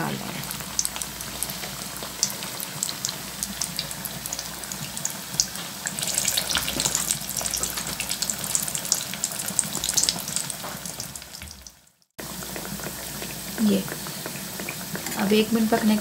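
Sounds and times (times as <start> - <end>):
oil sizzling with crackling pops: 0.0 - 16.0.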